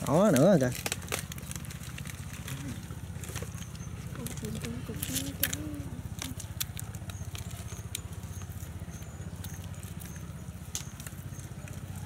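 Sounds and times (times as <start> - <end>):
fibrous trunk crackling: 0.0 - 12.0.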